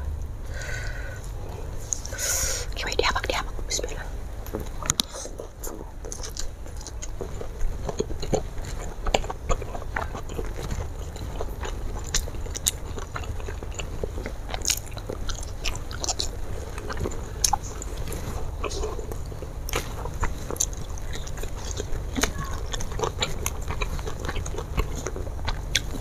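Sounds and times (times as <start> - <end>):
person chewing and crunching food: 0.0 - 26.0.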